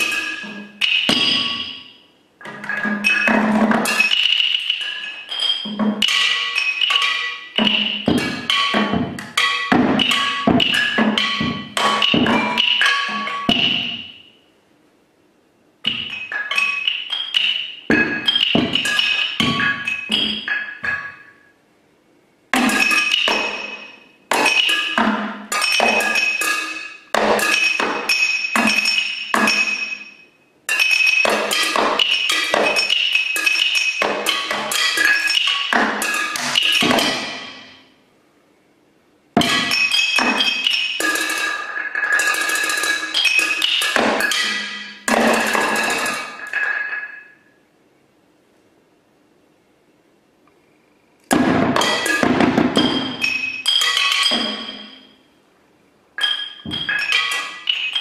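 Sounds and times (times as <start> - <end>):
mallets striking bottles and tins: 0.0 - 14.4, 15.8 - 21.4, 22.6 - 37.9, 39.4 - 47.5, 51.2 - 55.3, 56.2 - 58.0.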